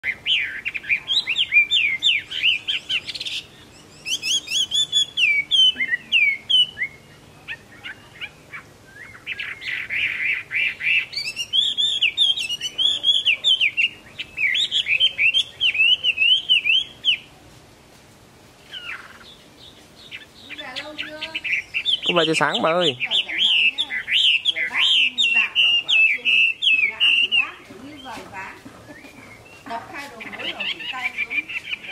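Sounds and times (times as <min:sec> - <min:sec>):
bird singing whistled notes: 0:00.0 - 0:17.3, 0:18.6 - 0:31.9.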